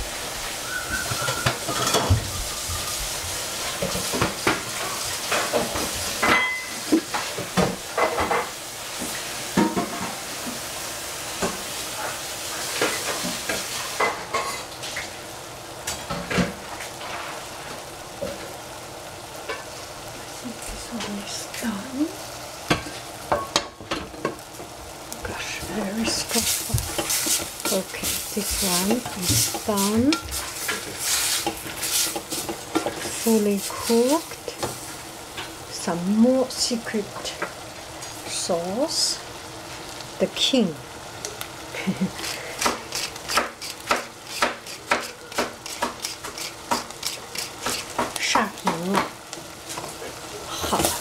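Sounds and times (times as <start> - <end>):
shrimp sizzling in a saucepan: 0.0 - 51.0.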